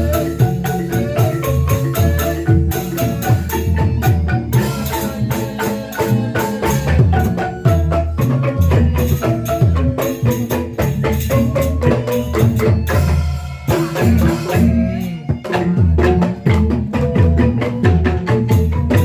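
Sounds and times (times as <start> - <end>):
xylophone-like percussion music: 0.0 - 19.0.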